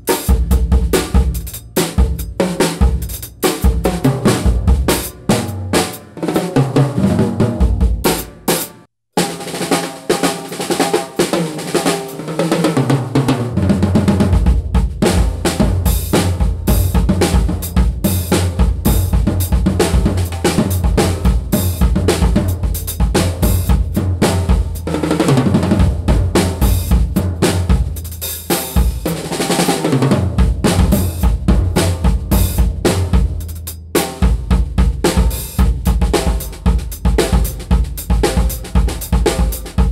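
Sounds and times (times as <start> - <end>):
drum kit groove with fills: 0.0 - 39.9.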